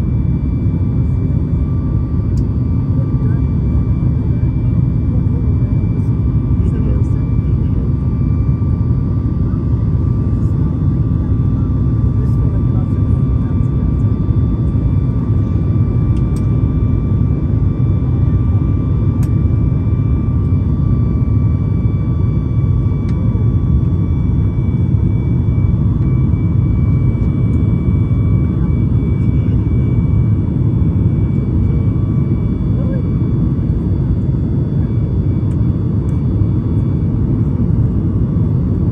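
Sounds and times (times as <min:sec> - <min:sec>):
jet engine low rumble: 0:00.0 - 0:38.9.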